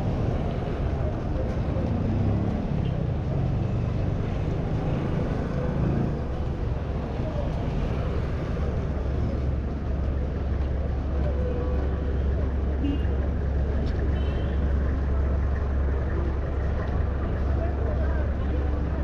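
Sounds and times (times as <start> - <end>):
low engine rumble: 0.0 - 19.0
passing vehicle traffic: 0.0 - 19.0.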